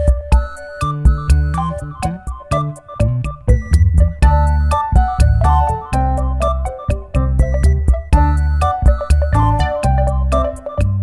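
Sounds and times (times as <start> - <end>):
synthesizer tune with bass and beat: 0.0 - 11.0.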